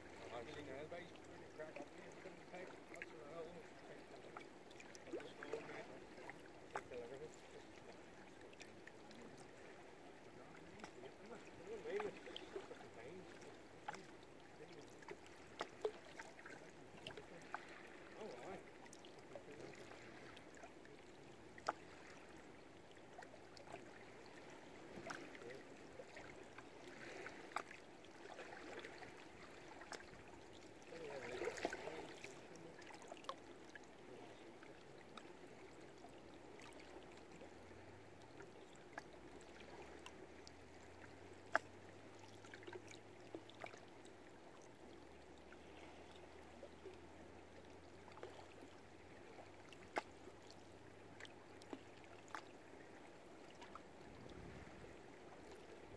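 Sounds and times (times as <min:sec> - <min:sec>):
water lapping against boats: 0:00.0 - 0:55.9.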